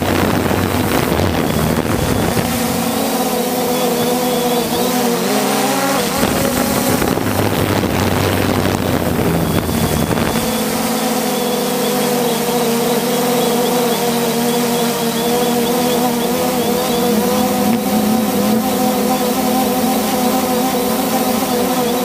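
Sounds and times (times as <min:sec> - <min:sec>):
drone propellers humming: 0:00.0 - 0:22.0
wind noise on microphone: 0:00.0 - 0:22.0.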